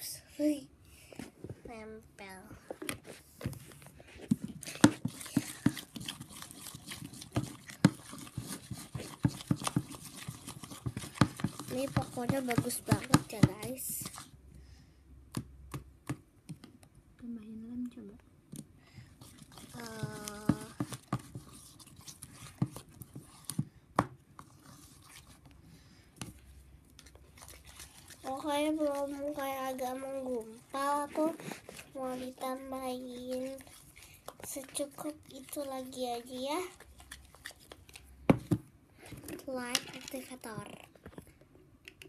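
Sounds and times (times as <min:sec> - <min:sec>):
spoon stirring slime: 0:04.0 - 0:14.4, 0:18.5 - 0:42.0.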